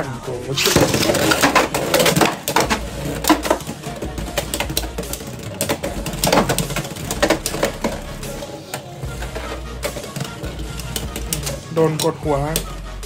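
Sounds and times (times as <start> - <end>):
spinning tops clashing: 0.5 - 12.8.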